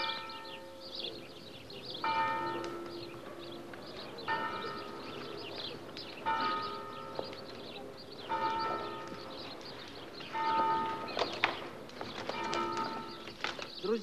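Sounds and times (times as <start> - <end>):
church bell tolling: 0.0 - 9.6, 10.3 - 11.4, 12.4 - 13.4.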